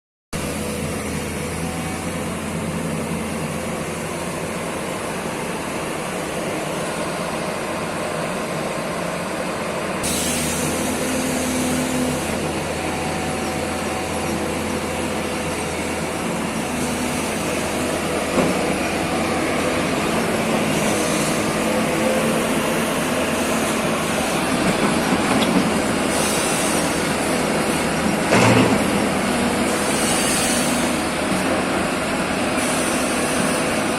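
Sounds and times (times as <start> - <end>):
excavator diesel engine running: 0.4 - 33.9.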